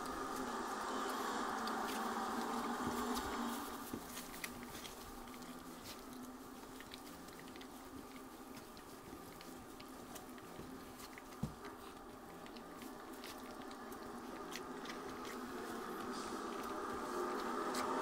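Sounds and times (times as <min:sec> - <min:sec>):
puppies chewing and lapping food: 0:00.0 - 0:18.0.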